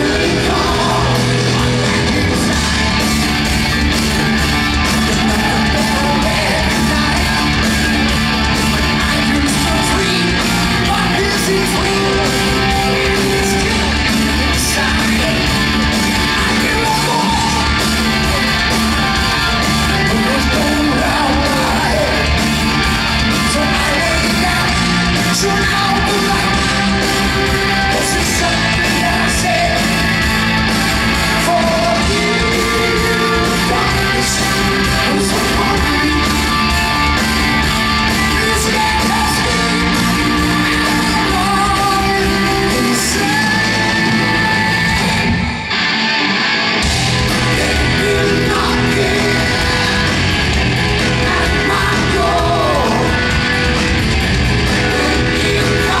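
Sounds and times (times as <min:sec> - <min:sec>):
man singing: 0:00.0 - 0:02.9, 0:04.9 - 0:08.0, 0:08.9 - 0:18.5, 0:19.6 - 0:22.5, 0:23.4 - 0:30.1, 0:31.2 - 0:37.0, 0:38.1 - 0:45.2, 0:47.3 - 0:53.4, 0:54.8 - 0:56.0
drum kit: 0:00.0 - 0:45.8, 0:46.7 - 0:56.0
distorted electric guitar: 0:00.0 - 0:56.0.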